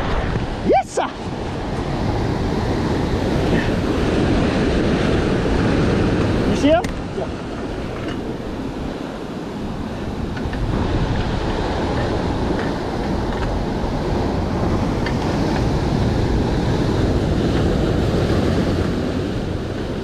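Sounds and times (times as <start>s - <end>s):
surf washing against rocks: 0.0s - 20.0s
wind buffeting microphone: 0.0s - 20.0s.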